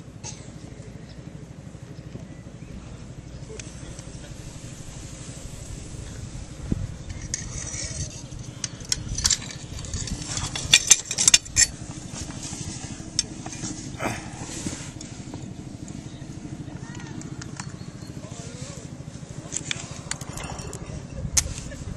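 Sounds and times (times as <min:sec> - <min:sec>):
steady low hum: 0:00.0 - 0:21.9
fire iron clinking and scraping: 0:02.8 - 0:21.9.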